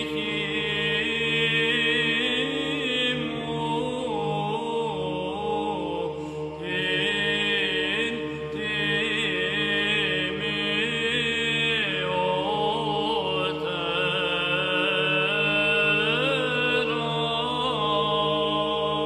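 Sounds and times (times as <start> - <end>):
choir chanting a hymn: 0.0 - 19.0.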